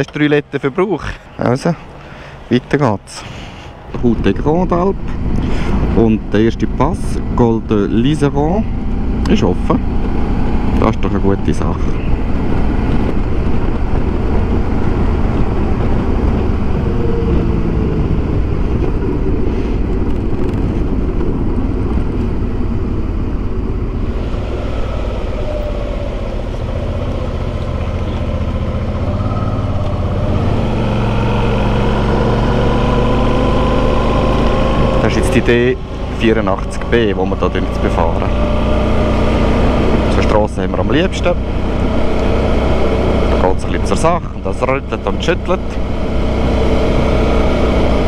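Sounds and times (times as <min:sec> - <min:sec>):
wind rushing over microphone: 0:01.8 - 0:48.0
motorcycle engine: 0:03.9 - 0:48.0.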